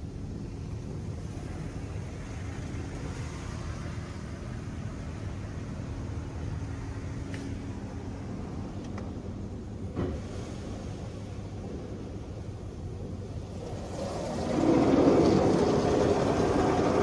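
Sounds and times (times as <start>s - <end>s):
car wash hum and hiss: 0.0s - 17.0s.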